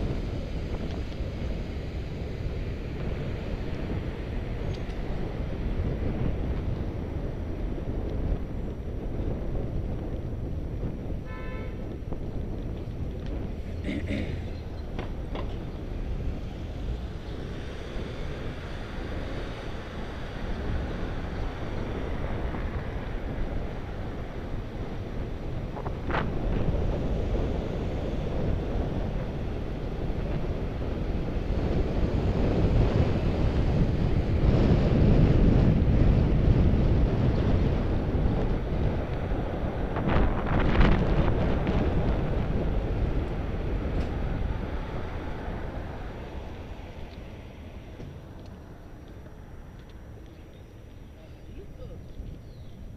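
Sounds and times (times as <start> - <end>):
low road rumble: 0.0 - 52.9
wind buffeting microphone: 0.0 - 52.9.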